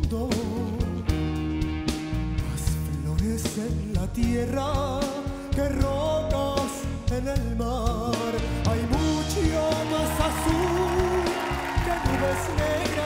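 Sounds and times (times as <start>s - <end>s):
man singing with vibrato: 0.0s - 1.1s, 2.4s - 13.0s
instrumental accompaniment: 0.0s - 13.0s.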